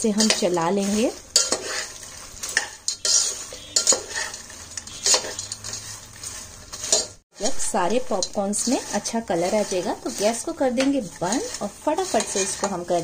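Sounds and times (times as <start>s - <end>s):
spoon scraping and tapping a pan: 0.0s - 7.2s, 7.8s - 13.0s
popcorn rustling in a pan: 0.0s - 13.0s.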